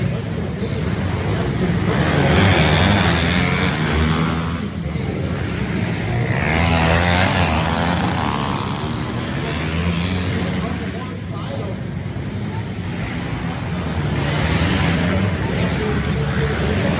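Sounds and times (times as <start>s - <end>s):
pit bike engines revving: 0.0s - 16.9s.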